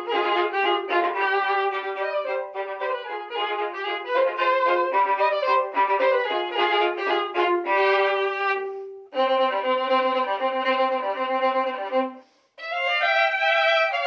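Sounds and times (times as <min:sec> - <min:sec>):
violin duet: 0:00.0 - 0:14.0.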